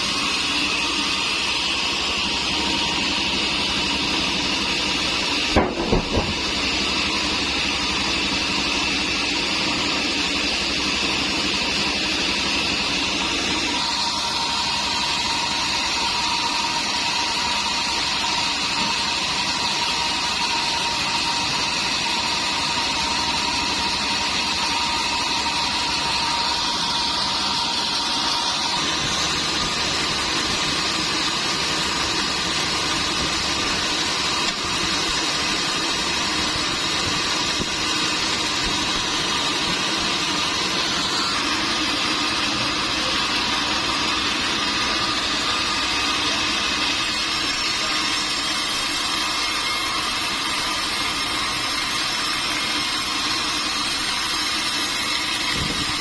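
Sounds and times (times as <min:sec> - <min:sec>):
high machine whine: 0:00.0 - 0:56.0
sawmill machinery running: 0:00.0 - 0:56.0.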